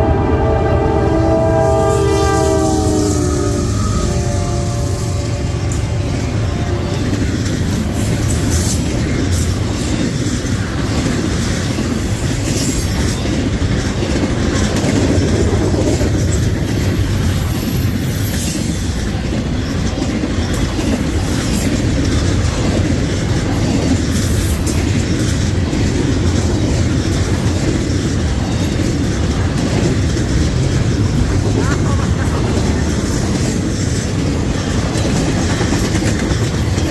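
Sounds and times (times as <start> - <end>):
train wheels rumbling on rail: 0.0 - 36.9
clickety-clack over rail joints: 5.1 - 36.9.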